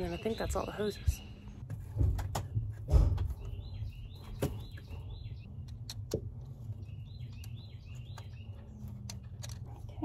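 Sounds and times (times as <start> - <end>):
bird singing: 0.0 - 1.6, 2.4 - 9.6.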